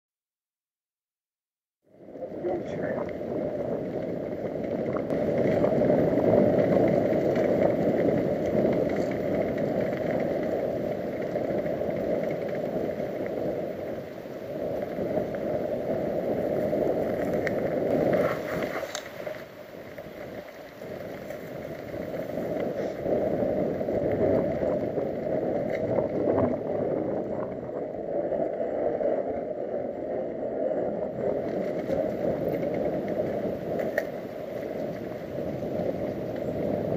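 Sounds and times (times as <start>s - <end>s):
bike tyre noise on dirt: 1.9s - 36.9s
wind buffeting: 1.9s - 36.9s.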